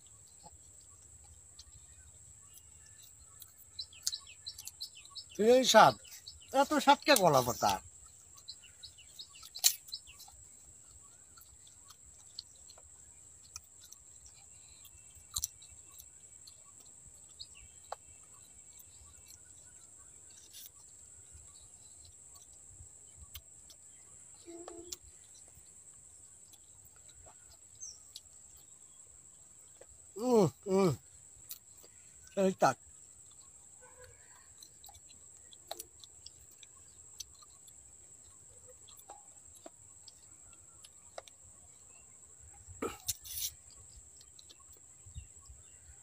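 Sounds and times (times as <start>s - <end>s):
bird chirps: 0.0s - 46.0s.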